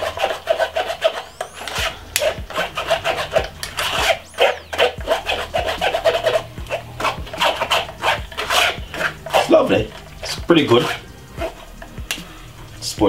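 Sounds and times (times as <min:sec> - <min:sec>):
spoon scraping metal mesh sieve: 0:00.0 - 0:11.9.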